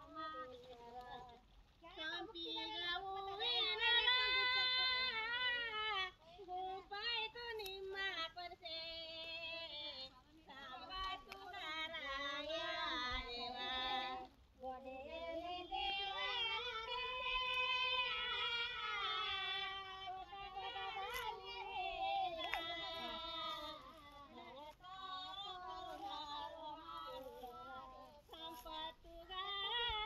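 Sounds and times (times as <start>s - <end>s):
woman singing unaccompanied: 0.0s - 30.0s.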